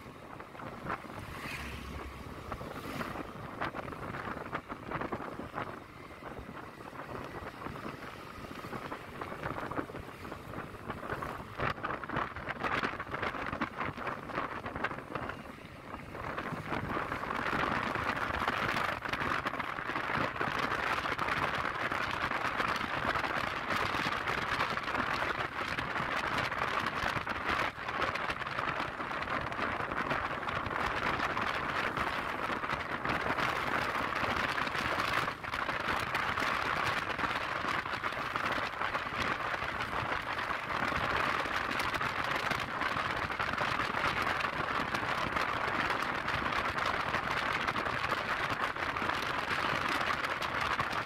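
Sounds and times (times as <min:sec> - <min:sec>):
wind and road noise: 0:00.0 - 0:51.0.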